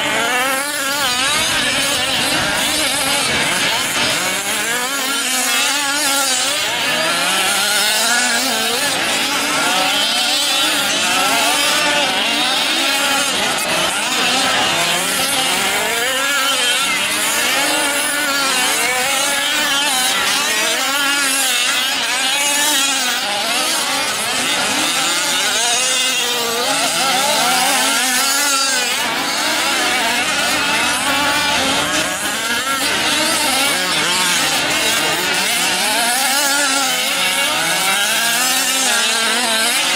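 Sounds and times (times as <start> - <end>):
small two-stroke engines racing: 0.0 - 39.9.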